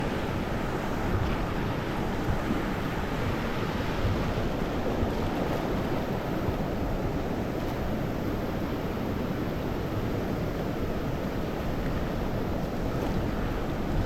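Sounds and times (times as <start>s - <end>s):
water rushing at waterfall: 0.0s - 14.0s.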